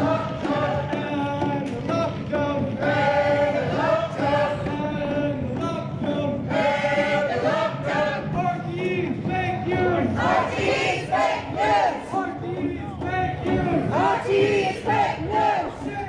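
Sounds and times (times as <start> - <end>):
crowd singing together: 0.0 - 16.0.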